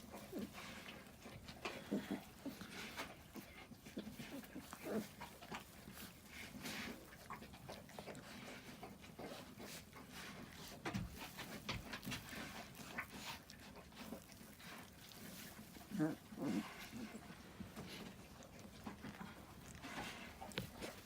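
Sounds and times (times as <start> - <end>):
puppies making soft noises: 0.0 - 21.0.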